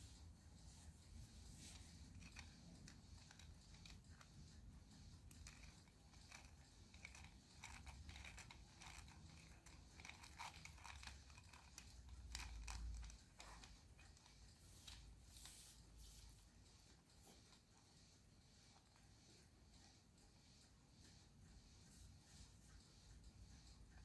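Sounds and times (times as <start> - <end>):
faint clicking and crinkling: 0.0 - 24.0.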